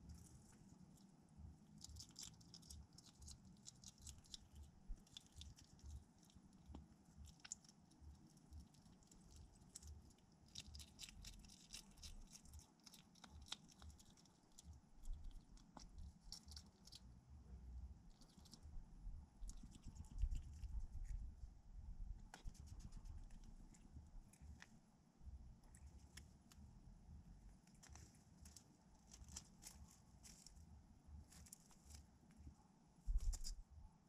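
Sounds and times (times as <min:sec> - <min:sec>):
hedgehog crunching food: 0:00.0 - 0:17.2, 0:18.0 - 0:21.4, 0:22.2 - 0:24.8, 0:25.5 - 0:26.7, 0:27.4 - 0:33.7.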